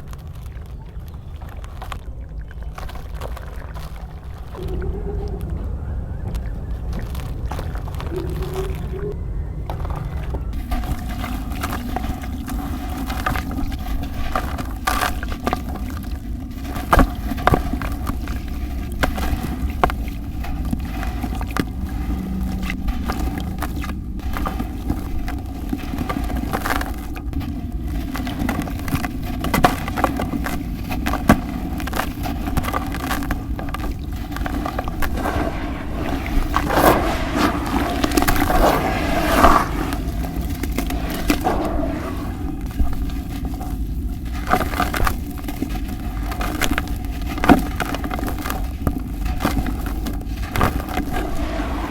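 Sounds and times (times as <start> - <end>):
cement crumbling crackles: 0.0 - 51.9
steady low rumble: 0.0 - 51.9.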